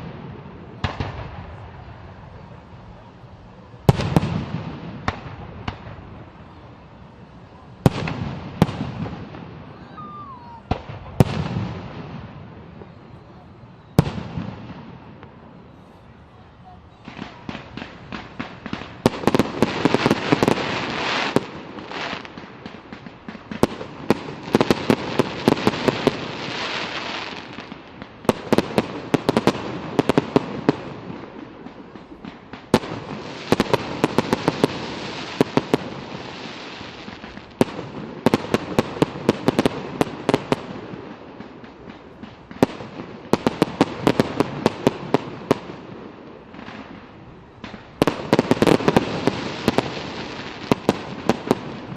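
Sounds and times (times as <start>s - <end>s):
fireworks crackling and rumbling: 0.0s - 51.9s.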